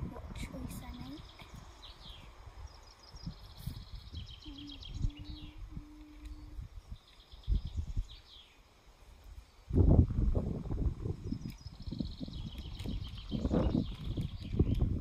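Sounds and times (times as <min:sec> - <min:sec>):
small birds chirping: 0:00.1 - 0:09.9, 0:11.0 - 0:15.0.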